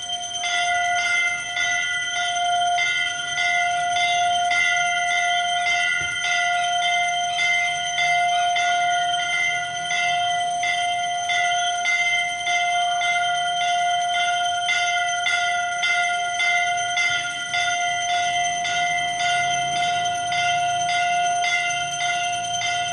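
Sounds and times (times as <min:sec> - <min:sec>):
temple bell ringing: 0:00.0 - 0:22.9.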